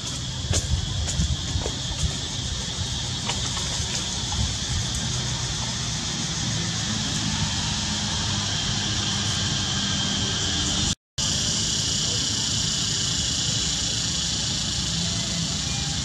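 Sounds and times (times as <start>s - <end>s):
continuous high hiss: 0.0s - 16.0s.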